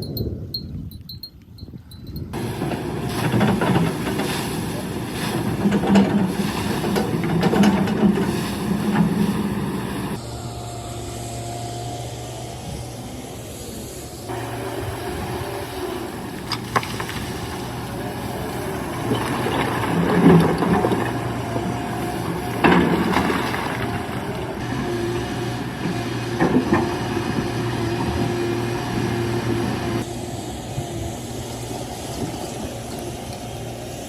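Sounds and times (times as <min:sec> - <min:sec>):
excavator diesel engine running: 0:02.4 - 0:34.0.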